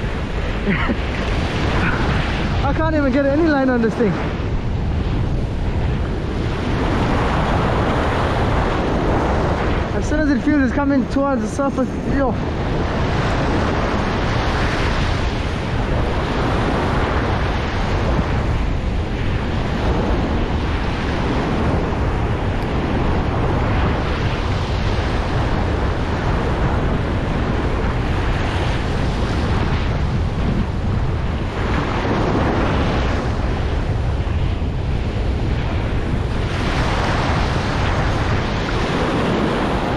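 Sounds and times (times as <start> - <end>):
ocean surf breaking: 0.0 - 39.9
wind rumbling on microphone: 0.0 - 39.9.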